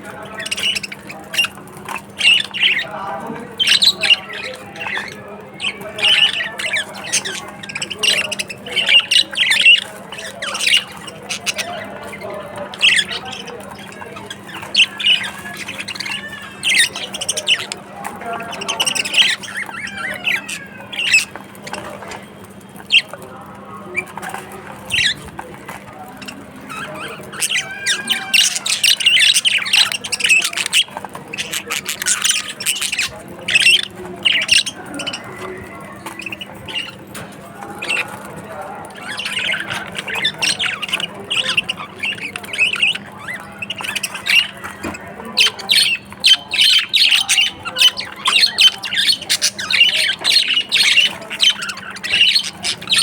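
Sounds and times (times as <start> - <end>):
budgerigars chattering and squawking: 0.0 - 53.0.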